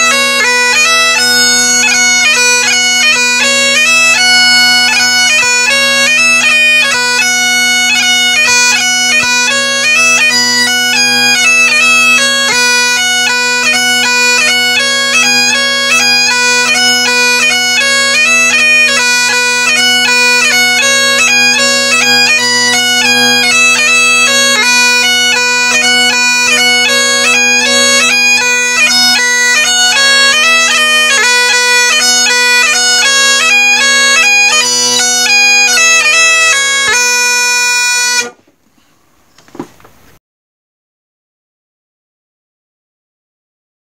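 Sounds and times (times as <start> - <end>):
bagpipe drones humming: 0.0 - 38.4
bagpipe melody: 0.0 - 38.4.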